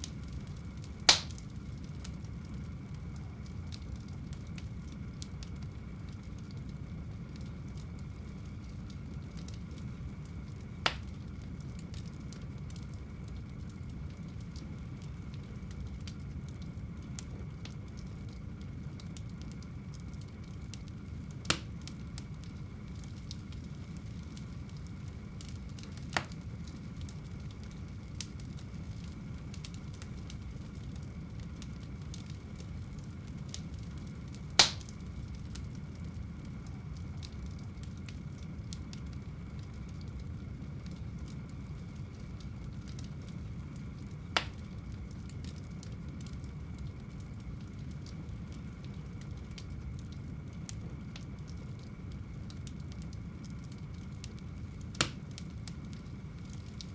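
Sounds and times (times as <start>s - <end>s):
low rush of flame: 0.0s - 56.9s
sharp pops from burning wood: 0.0s - 56.9s
wood fire crackling: 0.0s - 56.9s.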